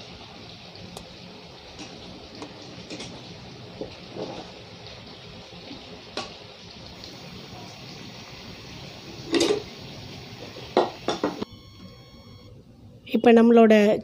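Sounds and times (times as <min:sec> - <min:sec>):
gravy sizzling in a pan: 0:00.0 - 0:11.5.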